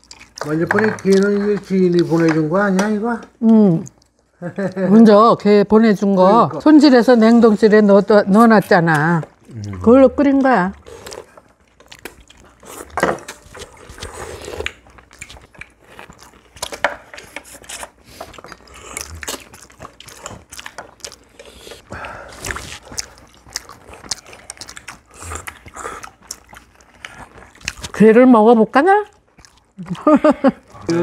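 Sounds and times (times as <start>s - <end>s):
people chewing: 0.0s - 5.1s, 6.8s - 31.0s.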